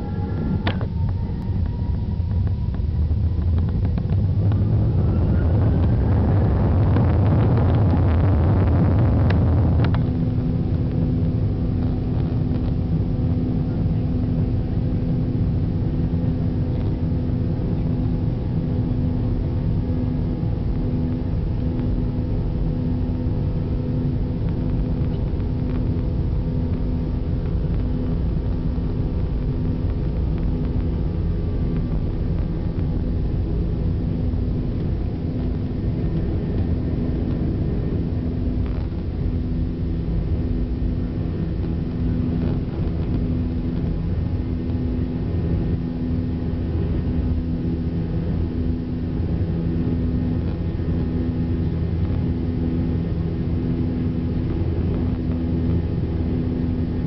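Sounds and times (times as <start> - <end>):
jet engines roaring: 0.0 - 57.0
pulsing low drone: 0.0 - 57.0.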